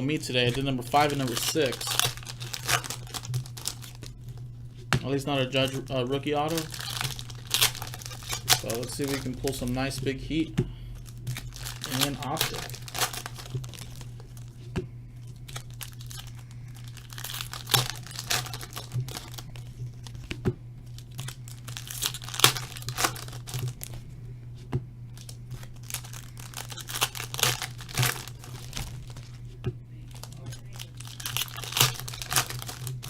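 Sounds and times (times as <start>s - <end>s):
foil wrappers tearing and crinkling: 0.0s - 4.4s, 5.1s - 10.1s, 11.0s - 14.6s, 15.2s - 24.1s, 25.2s - 29.4s, 30.1s - 33.0s
low electrical hum: 0.0s - 33.0s.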